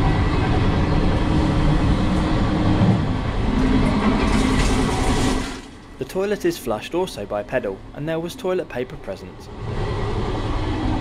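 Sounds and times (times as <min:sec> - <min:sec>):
train rumble and rail noise: 0:00.0 - 0:11.0.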